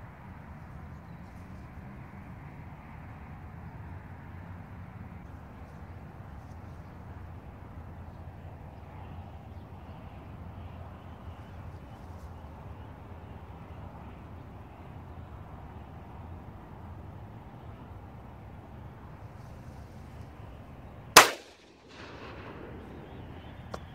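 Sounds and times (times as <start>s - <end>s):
low outdoor rumble: 0.0s - 23.9s.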